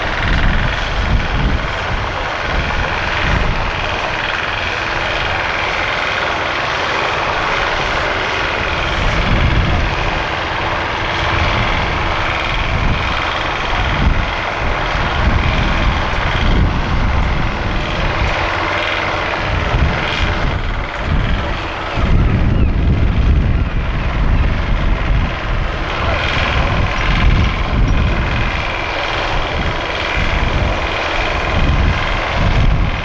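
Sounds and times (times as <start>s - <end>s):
heavy engine rumbling: 0.0s - 33.0s.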